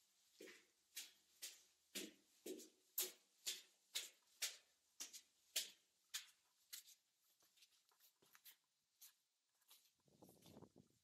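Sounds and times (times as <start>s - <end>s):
footsteps on concrete floor: 0.2s - 11.0s
footsteps on concrete stairs: 0.3s - 10.8s.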